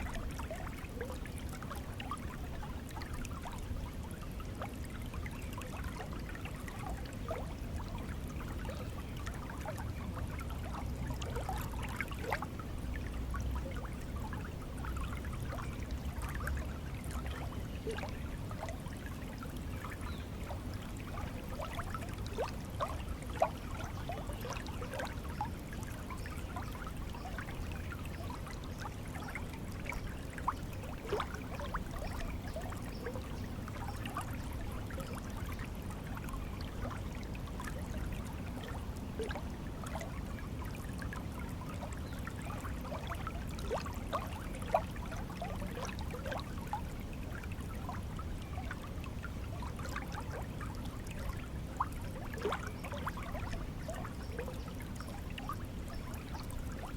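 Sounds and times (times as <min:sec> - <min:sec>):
stream water running: 0:00.0 - 0:56.9
water bubbling and trickling: 0:00.0 - 0:56.9.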